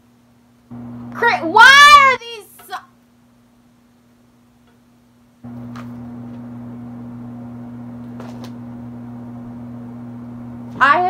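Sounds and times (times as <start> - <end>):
two-tone electrical hum: 0.0 - 11.0.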